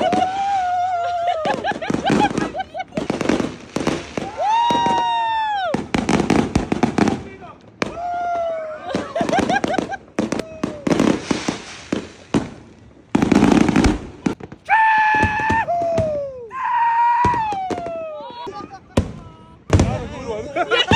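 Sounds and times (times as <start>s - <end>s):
fireworks bangs and crackling: 0.0s - 20.9s.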